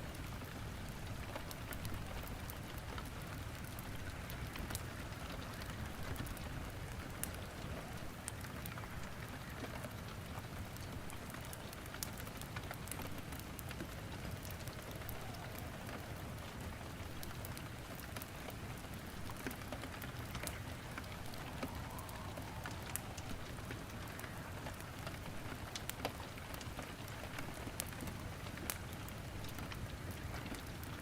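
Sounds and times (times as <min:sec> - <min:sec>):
steady rain: 0:00.0 - 0:31.0
wood fire crackling: 0:00.0 - 0:31.0.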